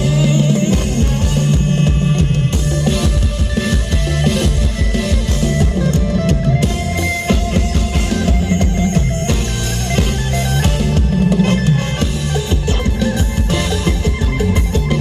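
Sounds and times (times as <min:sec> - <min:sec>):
driving drum beat: 0:00.0 - 0:15.0
heavy bass: 0:00.0 - 0:15.0
loud band music: 0:00.0 - 0:15.0.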